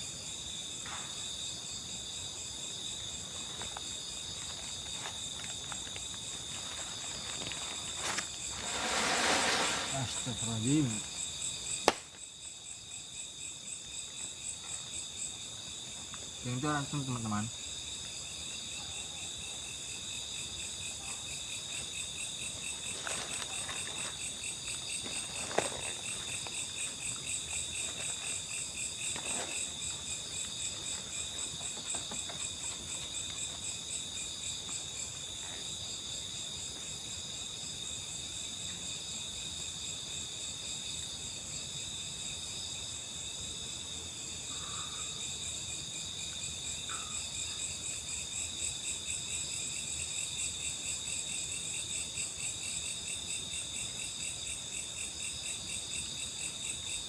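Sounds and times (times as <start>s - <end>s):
crickets and insects chirring: 0.0s - 57.0s.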